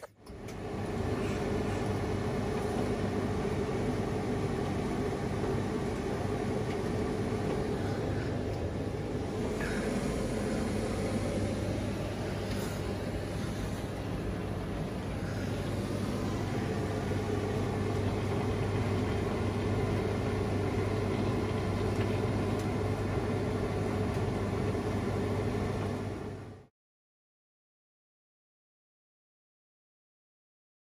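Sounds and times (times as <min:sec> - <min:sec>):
washing machine motor humming: 0:00.0 - 0:26.7.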